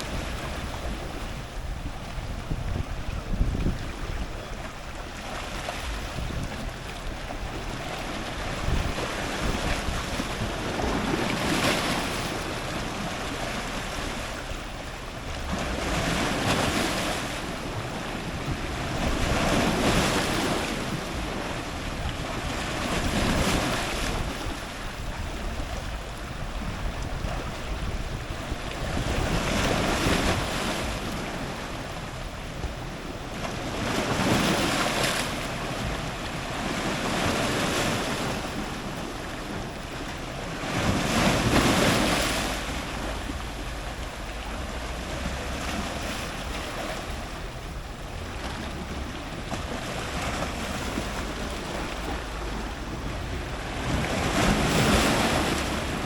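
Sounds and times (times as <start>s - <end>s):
waves breaking on rocks: 0.0s - 56.0s.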